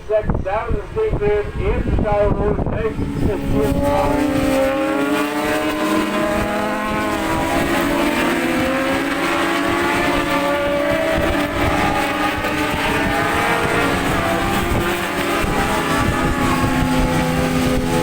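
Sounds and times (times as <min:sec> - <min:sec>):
racing motorcycles at high revs: 0:01.0 - 0:18.0.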